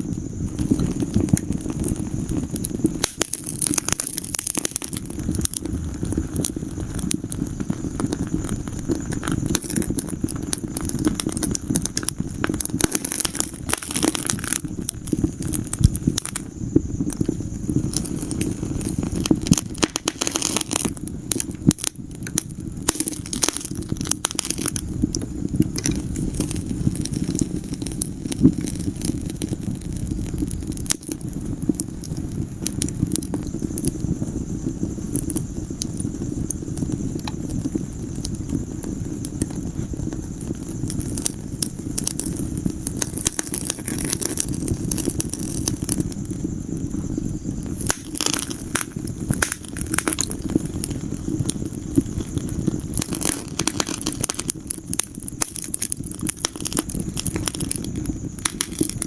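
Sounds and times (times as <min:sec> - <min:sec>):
low rumble of flames: 0:00.0 - 0:59.0
wood fire crackles and pops: 0:00.0 - 0:59.0.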